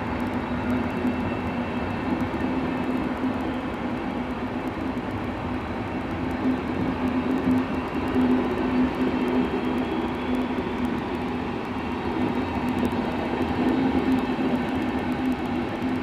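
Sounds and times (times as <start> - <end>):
constant low hum: 0.0 - 16.0
train coaches rolling: 0.0 - 16.0.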